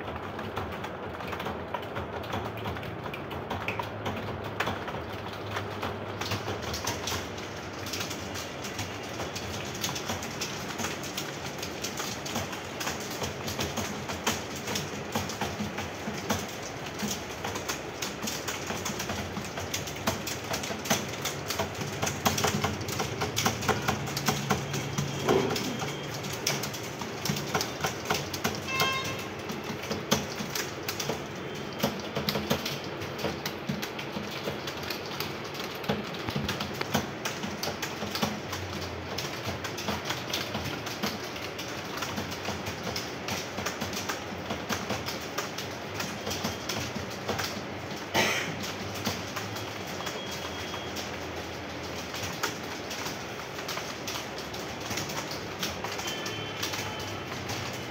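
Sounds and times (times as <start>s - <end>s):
many keyboards typing: 0.0s - 57.9s.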